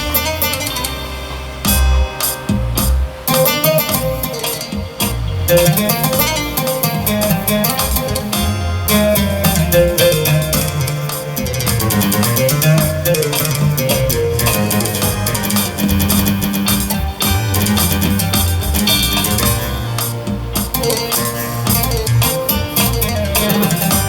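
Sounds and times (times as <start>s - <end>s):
bass line: 0.0s - 24.0s
guitar plucked and strummed: 0.0s - 24.0s.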